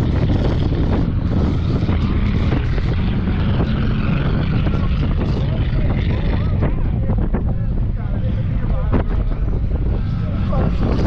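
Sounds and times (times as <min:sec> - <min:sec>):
distant race car engines: 0:00.0 - 0:11.0
wind buffeting microphone: 0:00.0 - 0:11.0.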